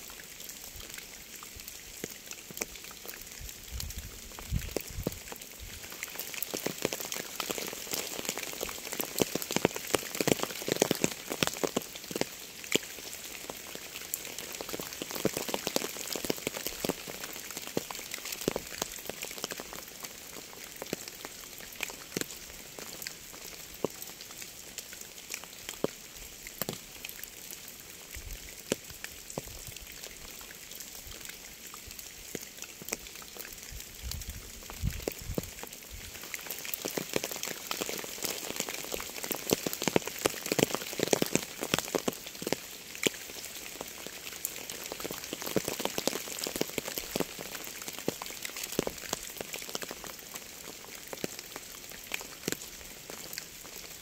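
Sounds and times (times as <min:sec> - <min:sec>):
rain hiss: 0:00.0 - 0:54.0
raindrops tapping on a surface: 0:00.8 - 0:31.4, 0:32.0 - 0:54.0.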